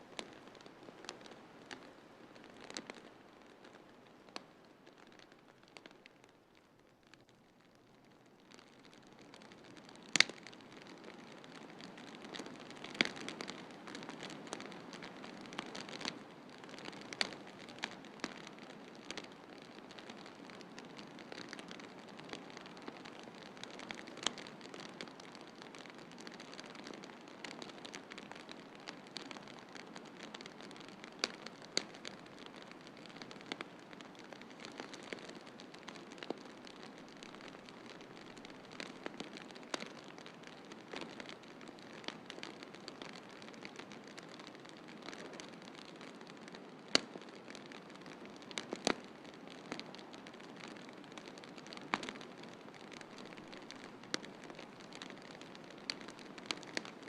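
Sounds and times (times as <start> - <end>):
wood fire crackling and popping: 0.1 - 57.0.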